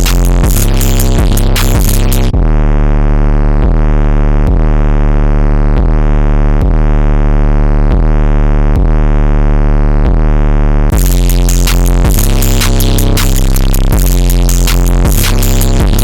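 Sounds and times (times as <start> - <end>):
distorted sub-bass synth: 0.0 - 16.0.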